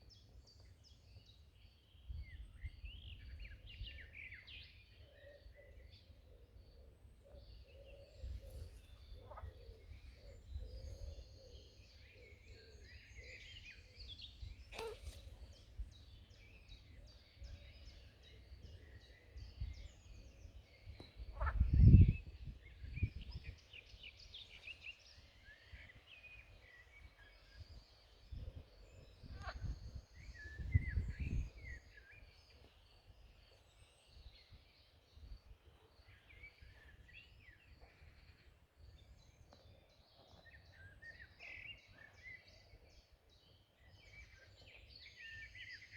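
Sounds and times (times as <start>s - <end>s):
small birds chirping and singing: 0.0s - 45.9s.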